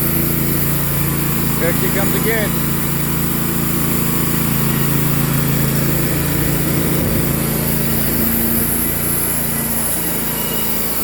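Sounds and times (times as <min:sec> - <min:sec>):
bandsaw blade cutting log: 0:00.0 - 0:11.0
small gasoline engine running: 0:00.0 - 0:11.0.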